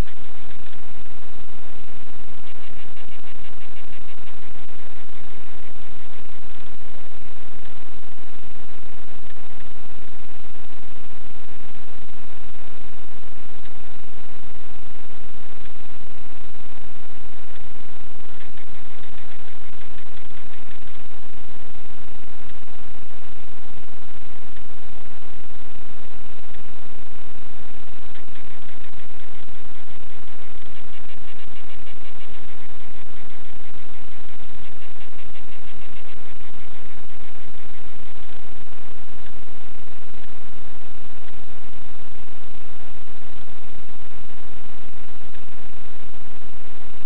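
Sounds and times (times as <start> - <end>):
faint buzzing: 0.0 - 47.0
static hiss: 0.0 - 47.0.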